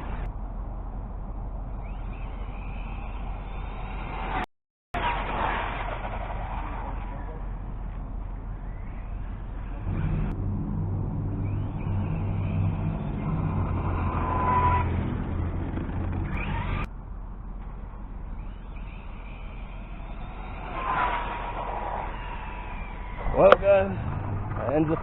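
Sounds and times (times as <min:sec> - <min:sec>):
low engine hum: 0:00.0 - 0:25.0
rc car motor whine: 0:01.8 - 0:04.4, 0:05.0 - 0:07.8, 0:08.4 - 0:17.0, 0:17.6 - 0:25.0.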